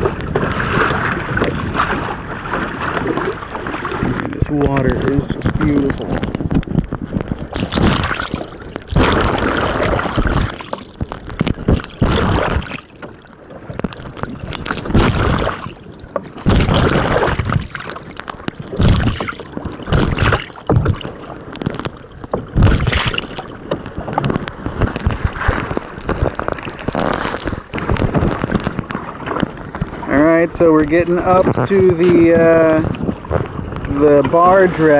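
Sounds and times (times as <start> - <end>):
water splashing against kayak hull: 0.0 - 34.9.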